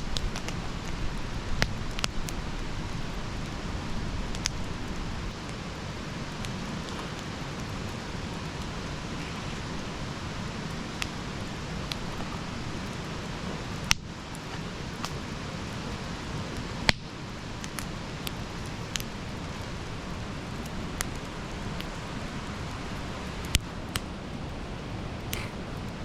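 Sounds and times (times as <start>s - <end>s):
campfire flames rumbling: 0.0s - 26.0s
wood crackling and popping: 0.0s - 26.0s.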